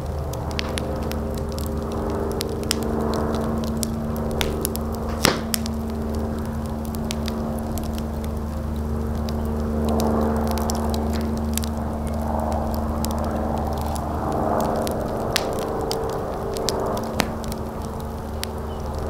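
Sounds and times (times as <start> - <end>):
fire crackling and popping: 0.0 - 19.0
steady low hum: 0.0 - 19.0.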